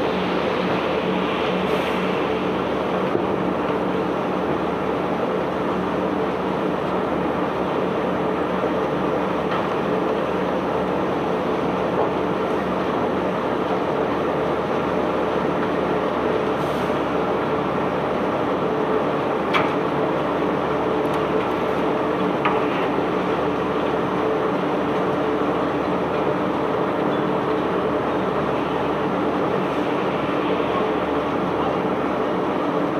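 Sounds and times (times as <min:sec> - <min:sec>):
machinery droning: 0:00.0 - 0:32.9.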